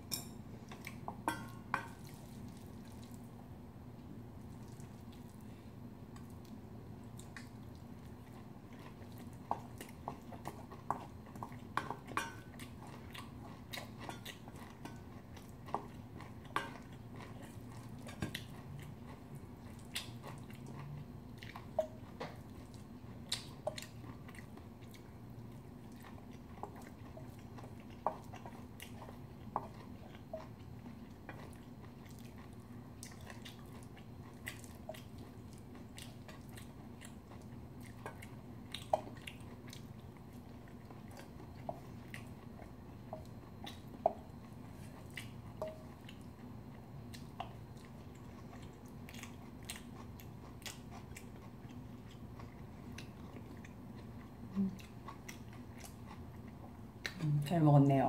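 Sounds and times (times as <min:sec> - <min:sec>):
low steady hum: 0:00.0 - 0:58.0
chewing and biting: 0:06.2 - 0:57.2.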